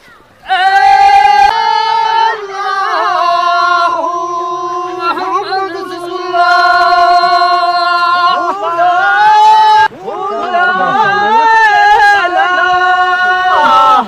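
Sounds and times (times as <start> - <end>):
men singing folk song: 0.4 - 14.0.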